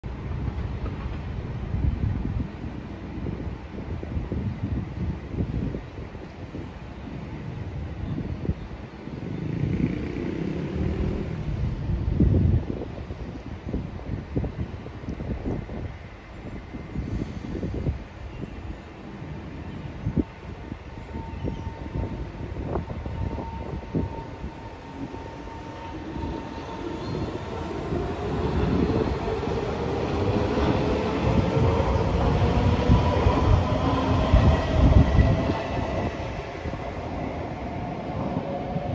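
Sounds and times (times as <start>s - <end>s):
wind gusting on microphone: 0.0s - 38.9s
train rumble: 0.1s - 38.9s.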